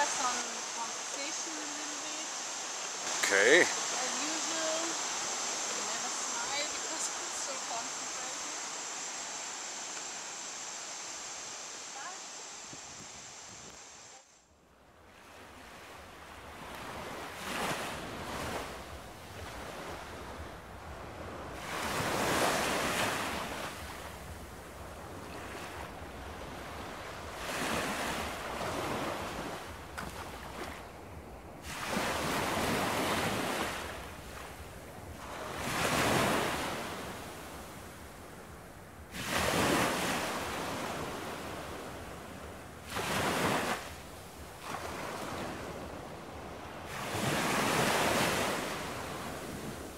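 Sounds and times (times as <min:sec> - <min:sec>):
waves breaking on a beach: 0:00.0 - 0:49.9.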